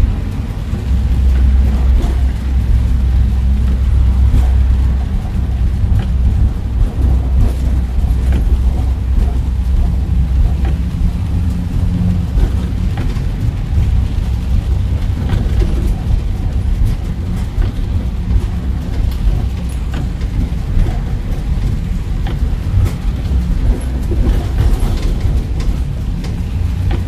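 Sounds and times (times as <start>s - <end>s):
car engine and road rumble: 0.0s - 27.0s
rain taps: 0.0s - 27.0s.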